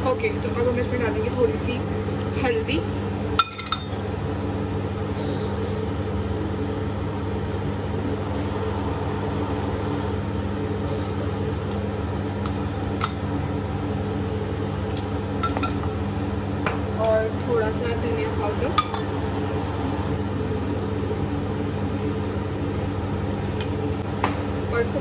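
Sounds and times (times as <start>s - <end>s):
induction cooktop hum with fan: 0.0s - 25.0s.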